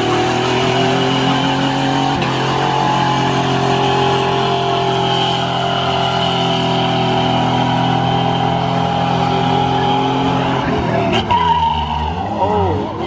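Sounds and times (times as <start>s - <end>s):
truck engine at high revs: 0.0s - 13.0s
tyres spinning on asphalt: 0.0s - 13.0s.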